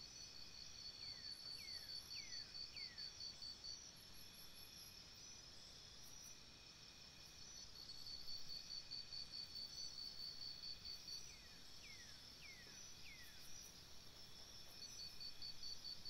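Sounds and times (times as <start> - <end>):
insects trilling: 0.2 - 16.0.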